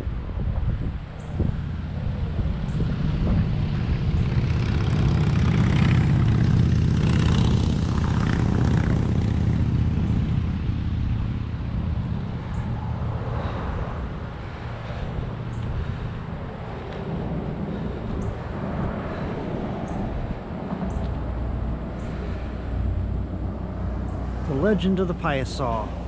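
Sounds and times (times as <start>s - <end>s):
passing vehicle engine rumble: 0.2s - 26.0s.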